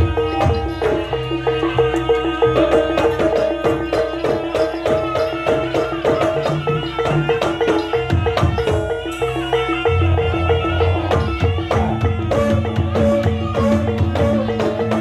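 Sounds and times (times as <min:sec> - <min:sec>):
hand drums and percussion: 0:00.0 - 0:15.0.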